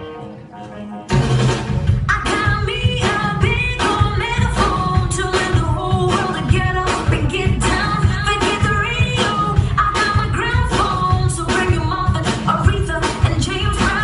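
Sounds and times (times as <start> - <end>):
pop dance music with singing: 1.1 - 14.0.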